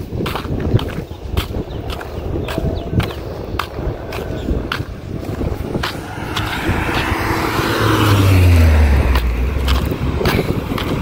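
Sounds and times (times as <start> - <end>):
footsteps on a road: 0.0 - 11.0
motor vehicle passing: 0.3 - 11.0.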